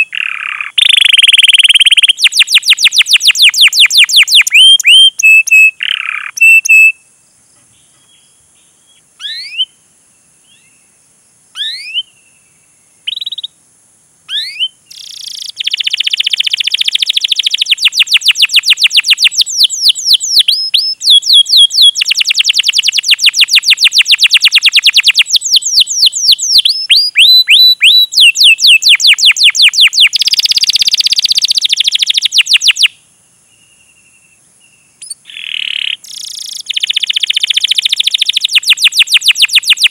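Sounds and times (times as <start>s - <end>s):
canary chirping: 0.0s - 7.0s, 9.2s - 9.7s, 11.6s - 12.1s, 13.0s - 13.5s, 14.3s - 32.9s, 35.0s - 39.9s.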